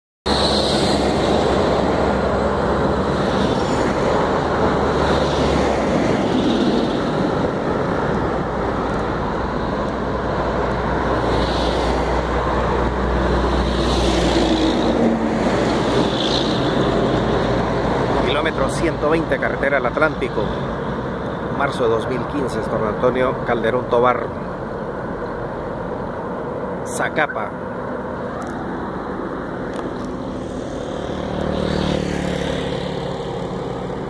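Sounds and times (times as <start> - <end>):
highway traffic passing: 0.3 - 34.0.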